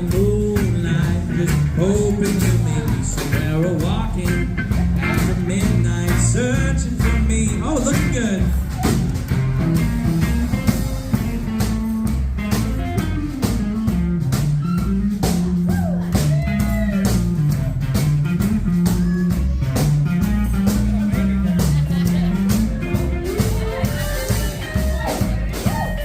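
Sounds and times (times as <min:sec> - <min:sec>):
bass line: 0:00.0 - 0:26.0
lead guitar with bent notes: 0:00.0 - 0:26.0
steady drum beat: 0:00.0 - 0:26.0.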